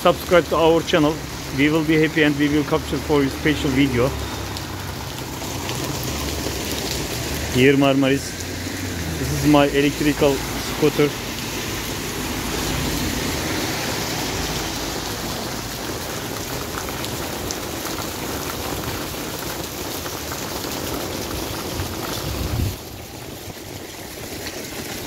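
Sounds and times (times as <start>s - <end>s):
rain falling on pavement: 0.0s - 25.0s.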